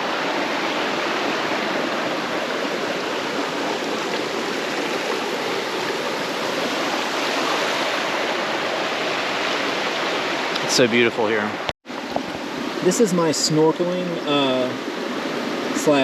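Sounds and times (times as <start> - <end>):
waterfall rushing water: 0.0 - 16.0.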